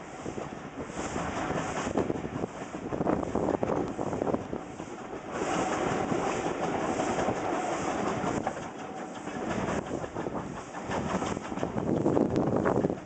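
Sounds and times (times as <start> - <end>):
train wheels clicking over rail joints: 1.2 - 13.0.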